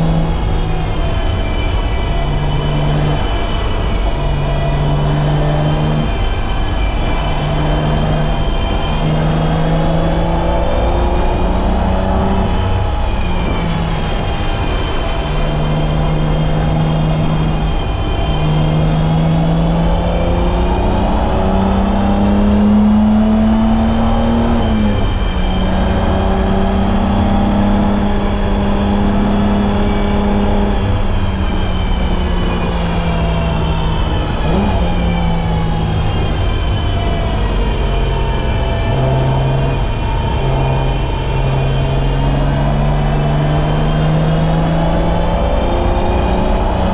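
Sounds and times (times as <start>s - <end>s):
car engine revving hard: 0.0s - 46.9s.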